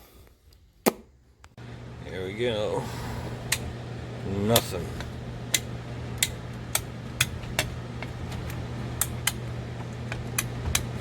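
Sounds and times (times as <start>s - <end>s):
steady low hum: 1.4s - 11.0s.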